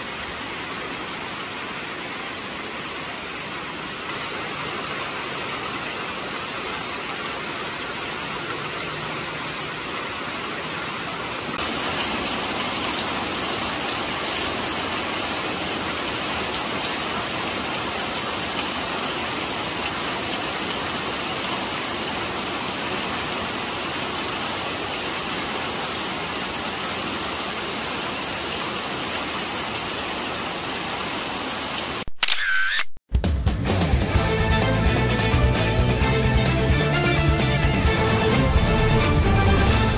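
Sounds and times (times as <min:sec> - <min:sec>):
heavy rain pouring: 0:00.0 - 0:32.0, 0:34.2 - 0:39.9.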